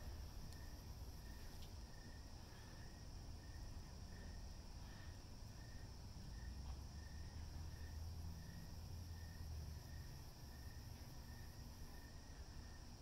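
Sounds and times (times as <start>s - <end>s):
insect chirp: 0.0s - 13.0s
insect trill: 0.0s - 13.0s.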